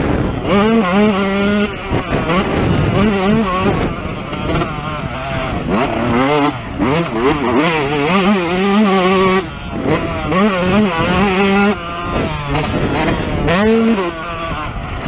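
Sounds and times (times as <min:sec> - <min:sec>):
two-stroke motorcycle revving: 0:00.0 - 0:15.0.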